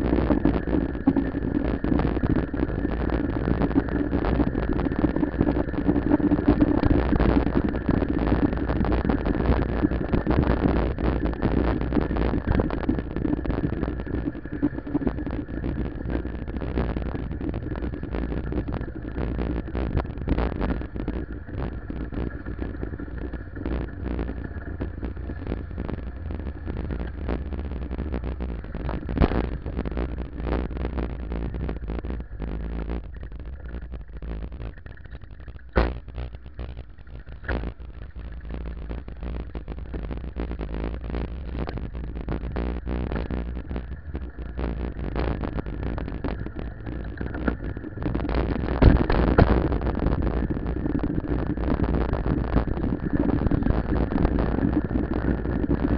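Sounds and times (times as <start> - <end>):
wind on microphone: 0.0 - 55.9.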